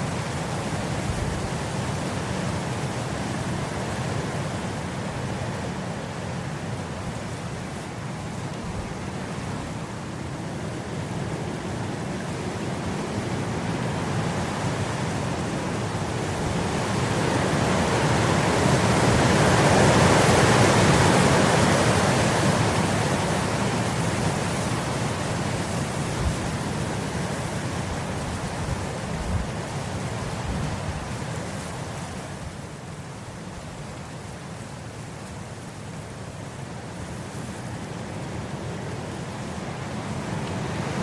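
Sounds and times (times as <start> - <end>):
wind blowing across grass: 0.0 - 41.0.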